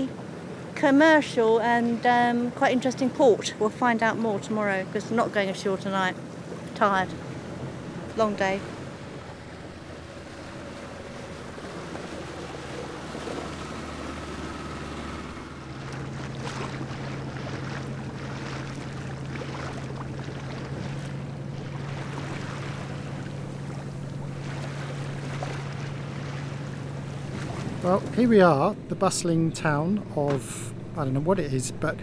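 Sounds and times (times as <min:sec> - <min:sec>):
boat engine drone: 0:00.0 - 0:32.0
water sloshing: 0:00.0 - 0:32.0.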